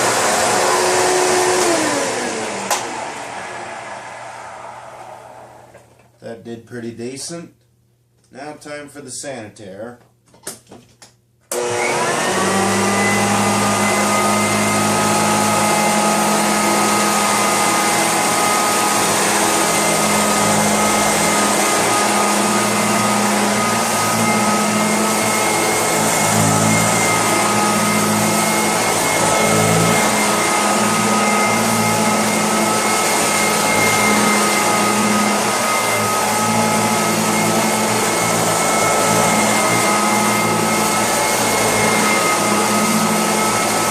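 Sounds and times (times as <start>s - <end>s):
vacuum cleaner whining: 0.0s - 6.2s, 11.5s - 43.9s.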